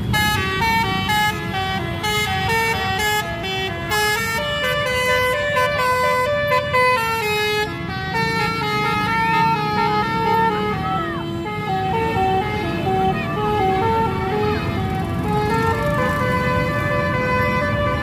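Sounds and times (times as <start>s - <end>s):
multi-tone bus air horn melody: 0.0s - 18.0s.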